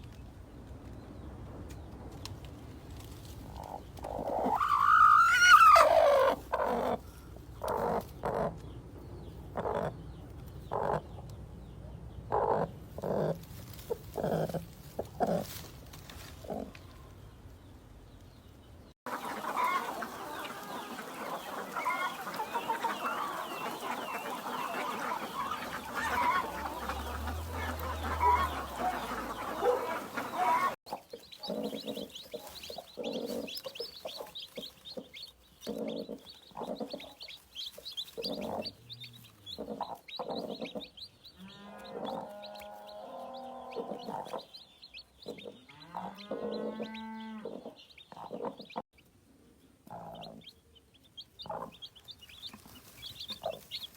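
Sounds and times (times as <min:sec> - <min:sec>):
chicks peeping: 0:00.4 - 0:15.5, 0:16.4 - 0:49.1, 0:49.8 - 0:53.9
chickens calling: 0:02.4 - 0:17.1, 0:19.0 - 0:48.9, 0:49.8 - 0:53.9
hen clucking: 0:03.4 - 0:08.8, 0:09.4 - 0:11.4, 0:12.2 - 0:15.6, 0:19.0 - 0:48.8, 0:49.8 - 0:53.9.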